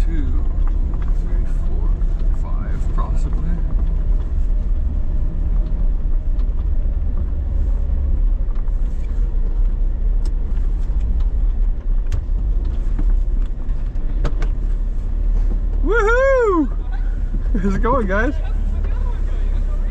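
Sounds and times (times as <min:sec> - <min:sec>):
vehicle engine and tyre rumble: 0:00.0 - 0:19.9.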